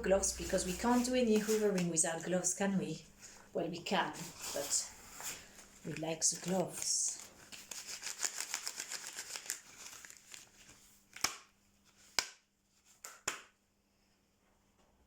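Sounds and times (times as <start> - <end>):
rubber gloves crinkling and rubbing: 0.1 - 2.6, 3.2 - 13.1.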